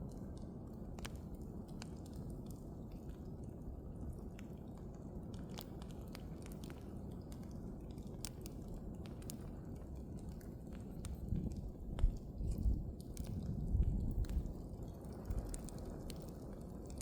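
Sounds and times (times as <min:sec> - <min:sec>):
bonfire crackling and popping: 0:00.0 - 0:17.0
low rush of flames: 0:00.0 - 0:17.0.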